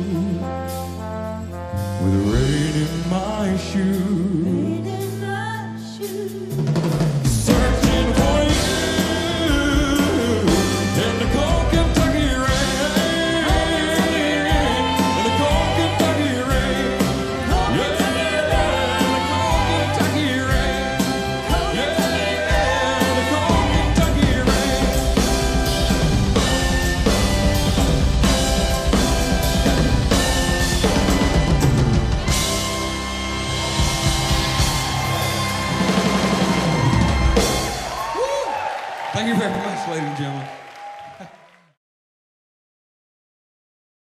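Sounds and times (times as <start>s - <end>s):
live band playing: 0.0s - 40.0s.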